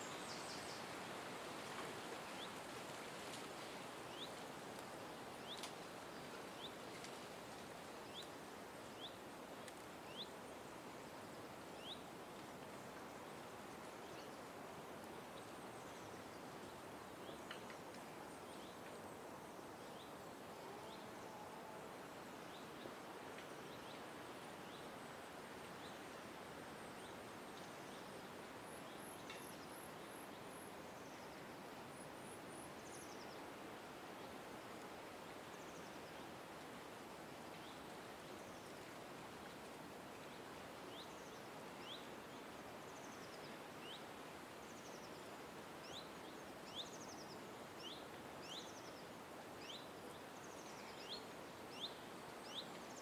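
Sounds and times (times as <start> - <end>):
steady background hiss: 0.0 - 53.0.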